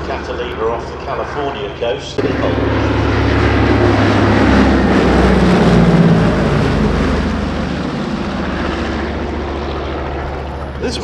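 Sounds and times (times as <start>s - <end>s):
radial aircraft engines droning: 0.0s - 11.0s.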